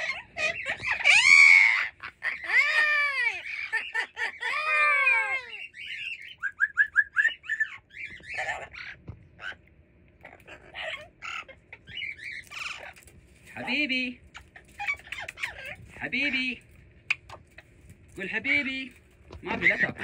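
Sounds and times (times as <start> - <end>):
parrot chirping: 0.0 - 9.6, 10.2 - 16.4, 17.0 - 17.8
parrot calling: 0.0 - 16.4, 17.0 - 17.8, 19.4 - 20.0.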